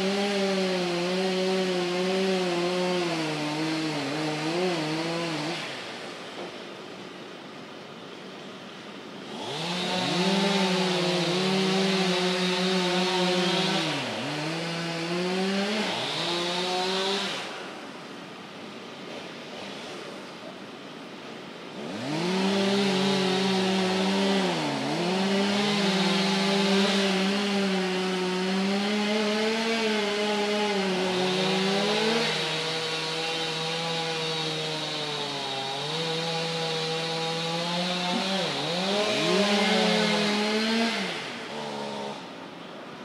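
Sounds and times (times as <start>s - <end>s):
chainsaw cutting wood: 0.0s - 6.1s, 9.2s - 17.8s, 21.7s - 42.4s.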